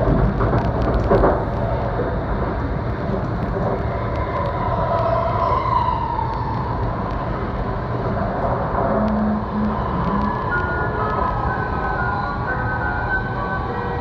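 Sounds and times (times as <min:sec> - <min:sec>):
train running rumble: 0:00.0 - 0:14.0
faint rising whine: 0:01.5 - 0:14.0.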